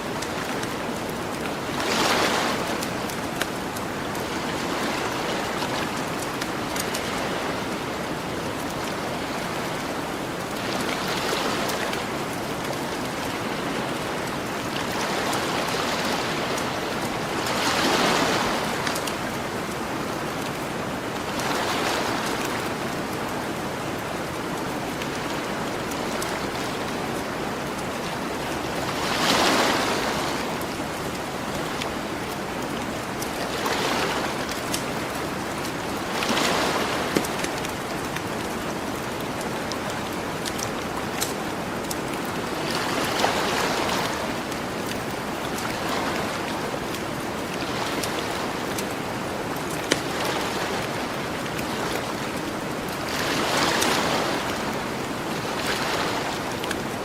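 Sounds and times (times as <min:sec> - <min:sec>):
faint campfire crackles: 0:00.0 - 0:57.0
ocean waves washing ashore: 0:00.0 - 0:57.0.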